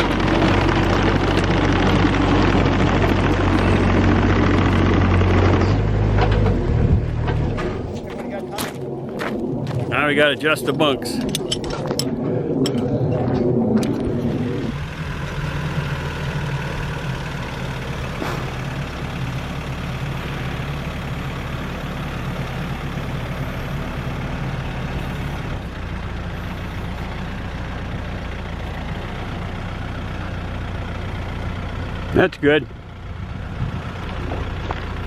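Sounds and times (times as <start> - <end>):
machine engine idling: 0.0 - 8.3, 11.1 - 35.0.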